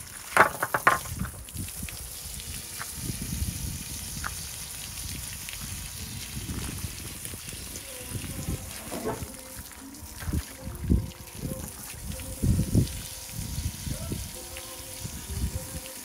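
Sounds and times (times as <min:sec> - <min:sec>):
hose water spraying and splashing: 0:00.0 - 0:16.0.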